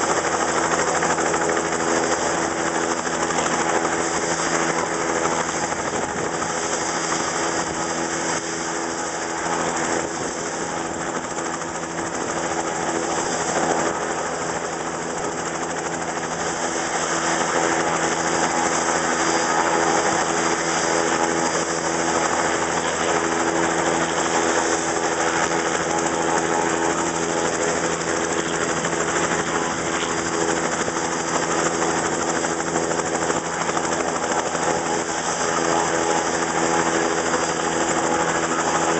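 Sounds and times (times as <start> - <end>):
helicopter engine running: 0.0 - 38.9.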